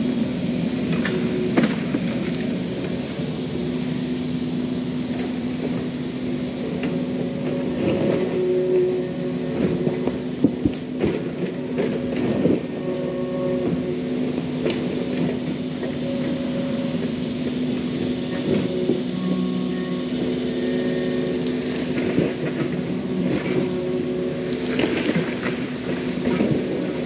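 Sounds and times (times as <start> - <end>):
diesel engine running: 0.0 - 27.0
hydraulic whine: 0.0 - 27.0.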